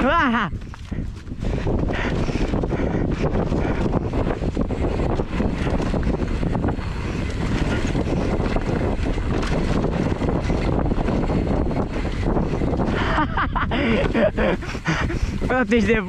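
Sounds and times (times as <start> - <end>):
mountain bike clattering: 0.0 - 16.0
wind buffeting microphone: 0.0 - 16.0.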